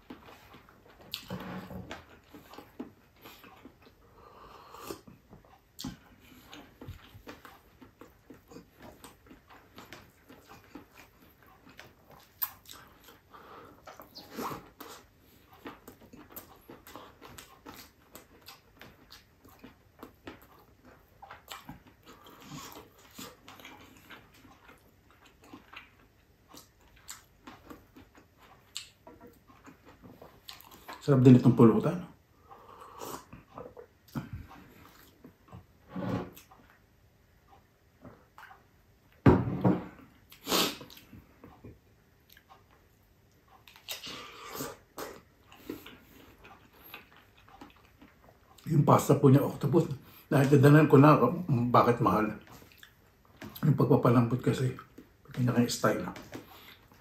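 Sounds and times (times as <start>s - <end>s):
wet chewing and lip-smacking: 0.0s - 1.3s, 1.9s - 4.0s, 4.6s - 31.1s, 32.1s - 35.7s, 37.5s - 39.2s, 40.0s - 48.7s, 52.3s - 53.7s, 56.1s - 57.0s.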